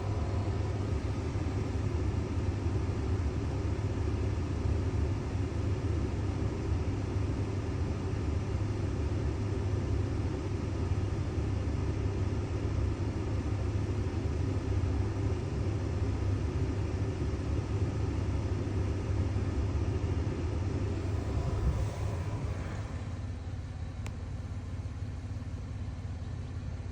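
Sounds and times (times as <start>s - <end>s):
vehicle engine rumble: 0.0s - 26.9s.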